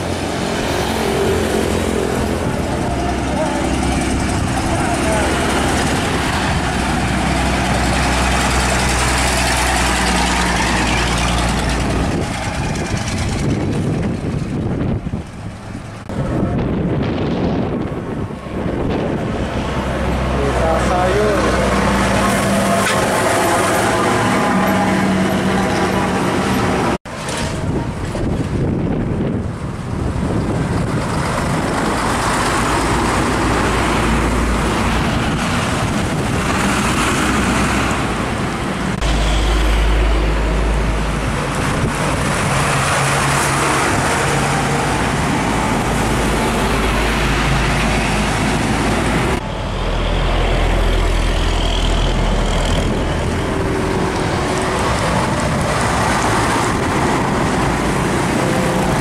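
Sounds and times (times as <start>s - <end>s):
diesel truck engine rumble: 0.0s - 59.0s
traffic: 0.0s - 59.0s.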